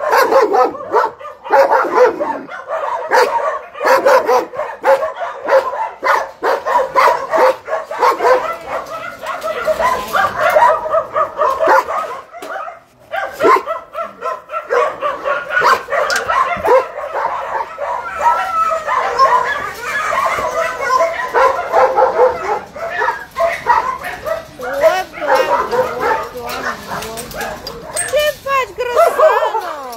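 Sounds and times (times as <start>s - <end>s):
dogs barking and yipping: 0.0s - 29.9s.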